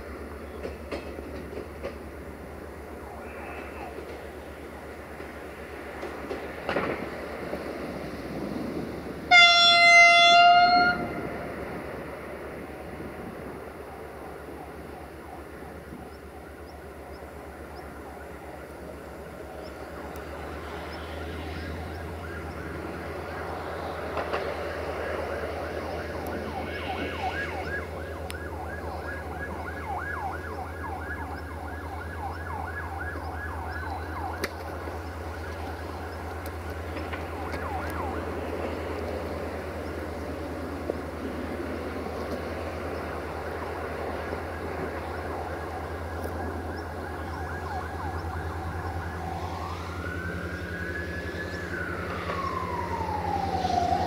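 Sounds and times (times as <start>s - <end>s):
diesel train engine humming: 0.0s - 54.0s.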